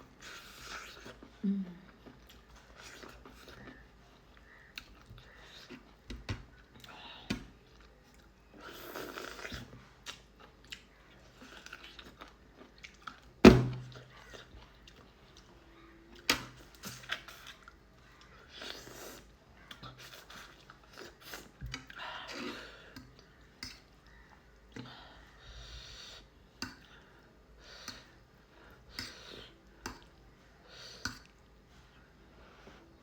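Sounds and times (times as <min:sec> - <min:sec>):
person chewing noodles: 0:00.1 - 0:01.3, 0:01.9 - 0:15.5, 0:16.1 - 0:32.0.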